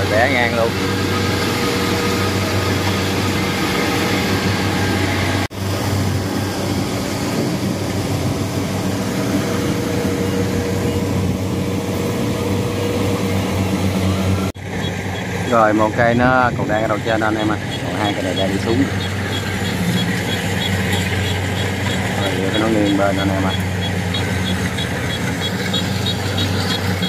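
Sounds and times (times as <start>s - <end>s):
combine harvester engine humming: 0.0s - 27.0s.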